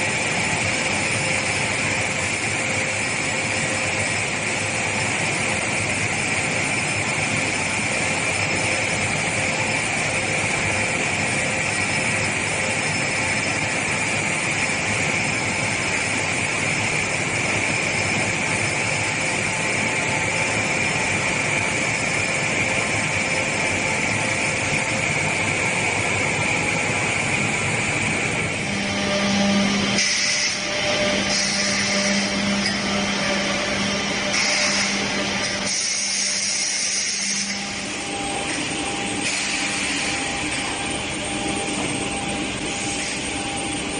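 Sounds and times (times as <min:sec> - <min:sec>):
machine humming with higher whine: 0:00.0 - 0:43.9
woodworking machinery hissing: 0:00.0 - 0:43.9.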